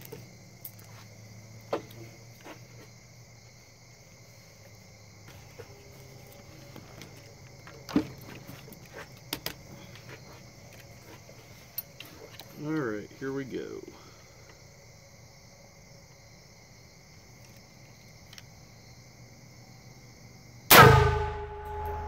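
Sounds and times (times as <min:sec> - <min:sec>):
insects buzzing: 0:00.0 - 0:20.7.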